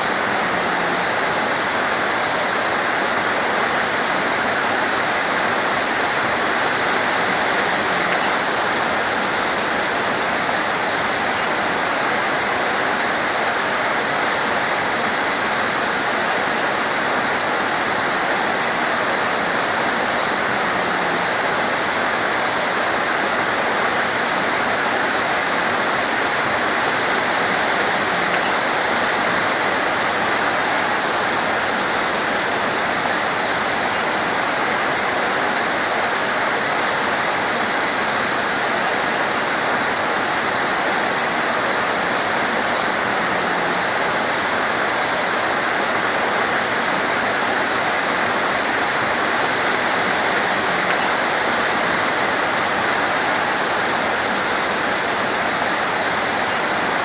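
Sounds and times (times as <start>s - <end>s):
heavy torrential rain: 0.0s - 57.0s.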